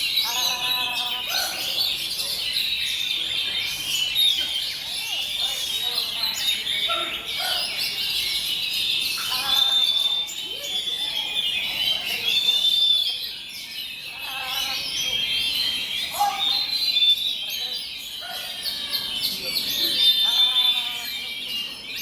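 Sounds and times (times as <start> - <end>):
birds singing in chorus: 0.0 - 22.0
faint people's voices: 0.0 - 22.0.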